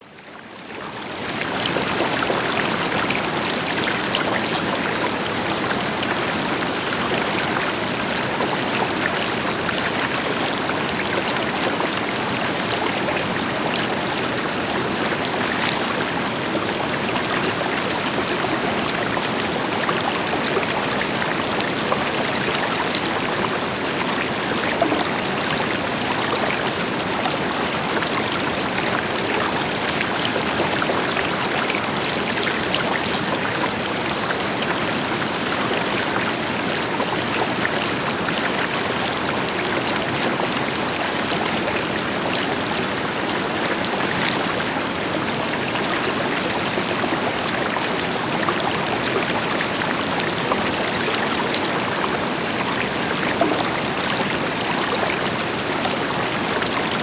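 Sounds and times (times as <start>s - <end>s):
river water flowing: 0.2s - 57.0s.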